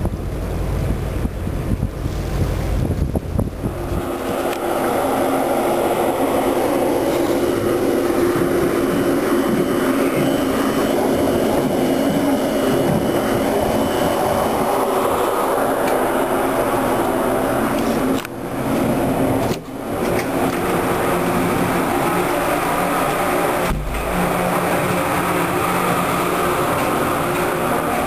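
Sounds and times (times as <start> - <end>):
ship machinery drone: 0.0 - 28.0
wind buffeting microphone: 0.0 - 28.0.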